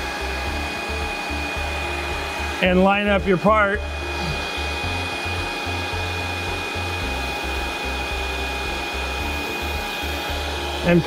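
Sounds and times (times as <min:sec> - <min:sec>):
vacuum pump running with whine: 0:00.0 - 0:11.0.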